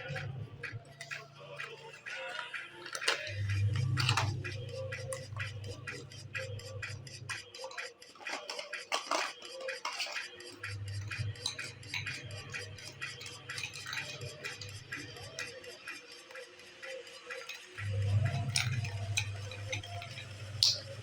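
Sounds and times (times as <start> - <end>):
metal spoon clinking on cup: 0.9 - 21.0.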